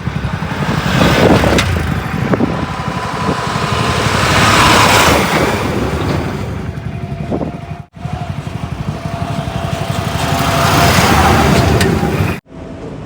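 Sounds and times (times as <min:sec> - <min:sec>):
heavy diesel engine throbbing: 0:00.0 - 0:13.0.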